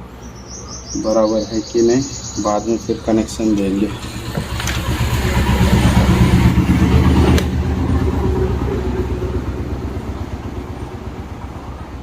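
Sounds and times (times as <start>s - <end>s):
ceiling fan motor humming: 0.0s - 12.0s.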